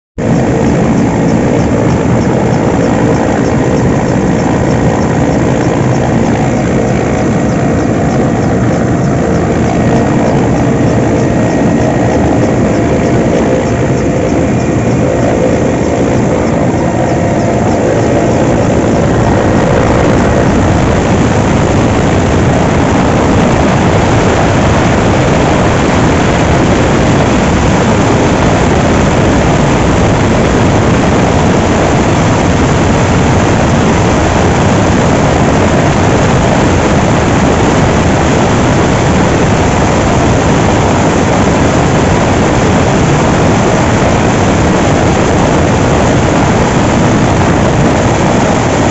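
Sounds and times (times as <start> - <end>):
helicopter rotor and engines: 0.0 - 48.9
faint steady tones: 0.2 - 48.9.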